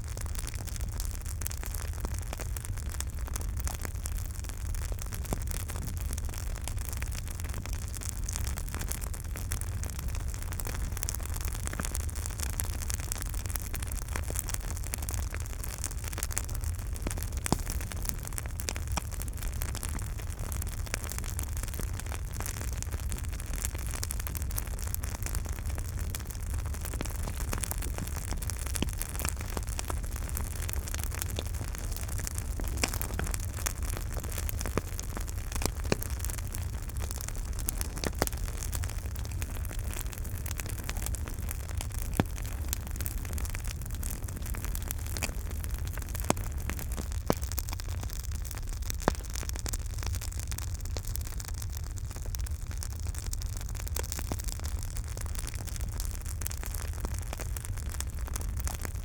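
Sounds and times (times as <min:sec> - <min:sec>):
campfire rumble and hiss: 0:00.0 - 0:59.0
wood crackling and popping: 0:00.0 - 0:59.0.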